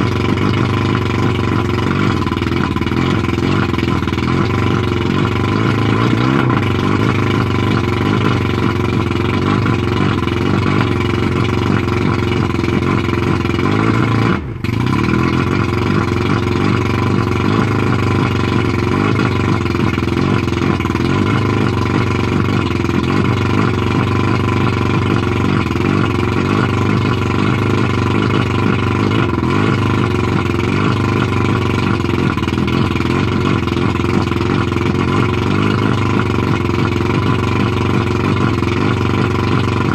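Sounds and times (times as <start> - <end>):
outboard motor idling: 0.0 - 39.9.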